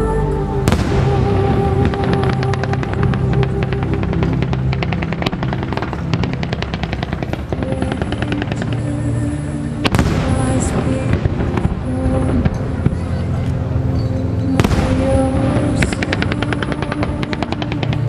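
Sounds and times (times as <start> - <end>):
music with sustained notes: 0.0 - 18.0.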